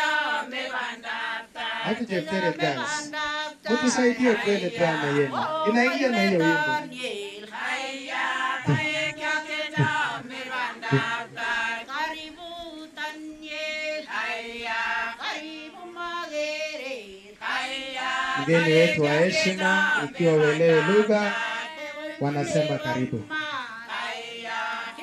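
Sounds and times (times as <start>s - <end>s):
woman singing into a microphone: 0.0s - 25.0s
women's group singing: 0.0s - 25.0s.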